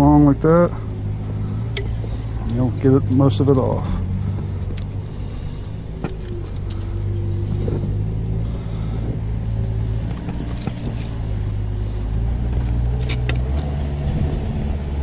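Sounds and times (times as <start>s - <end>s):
motor humming: 0.5s - 14.8s.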